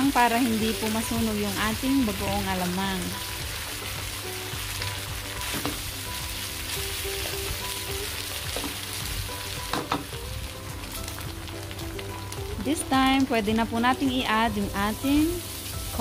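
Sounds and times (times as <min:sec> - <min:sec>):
pork sizzling in a wok: 0:00.0 - 0:16.0.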